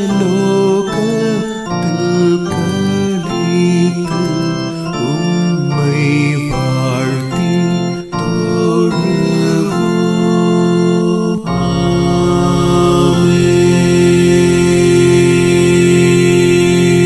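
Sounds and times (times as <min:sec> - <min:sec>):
organ playing hymn chords: 0:00.0 - 0:17.0.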